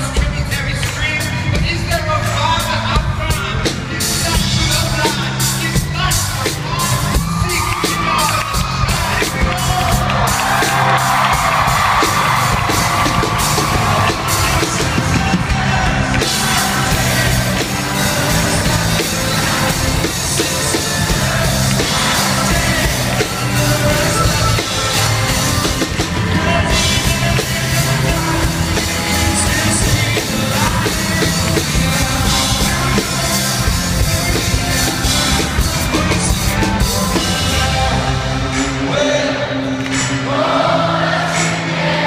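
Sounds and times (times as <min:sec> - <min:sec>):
drum kit with cymbals: 0:00.0 - 0:41.8
person singing: 0:00.0 - 0:42.0
piano: 0:00.0 - 0:42.0.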